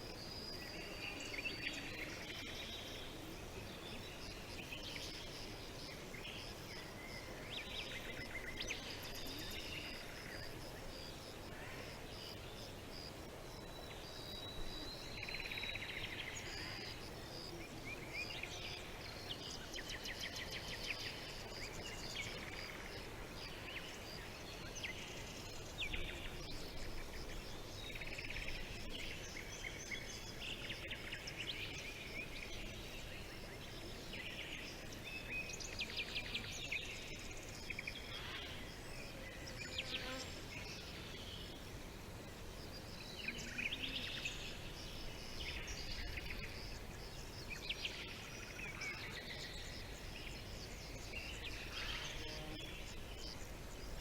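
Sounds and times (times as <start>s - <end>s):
faint background hiss: 0.0s - 54.0s.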